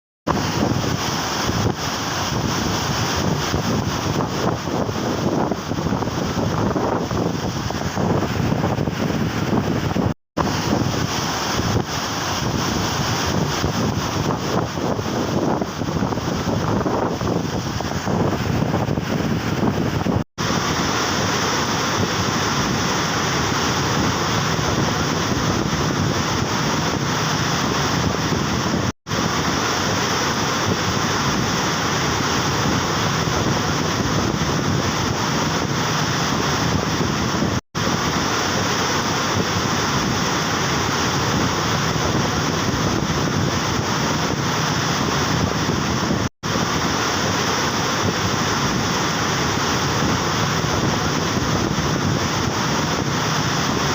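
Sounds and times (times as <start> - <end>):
floodwater rushing: 0.3 - 53.9
wind on microphone: 0.3 - 53.9.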